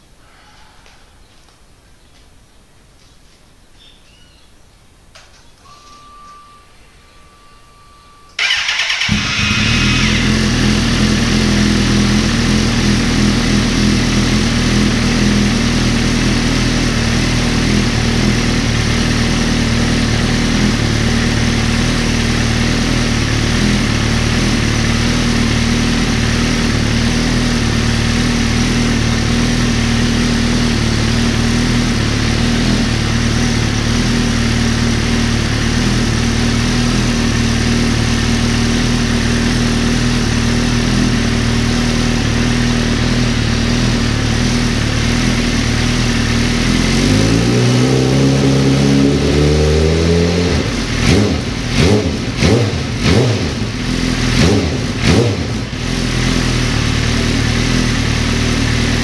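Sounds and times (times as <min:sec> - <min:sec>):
motorcycle engine idling: 0:08.4 - 0:59.0.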